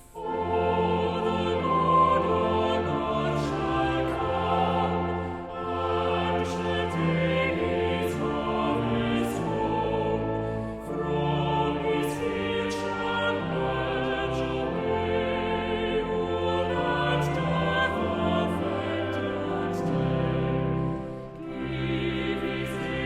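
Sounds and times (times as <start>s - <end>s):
choir singing slow chords: 0.0s - 23.0s.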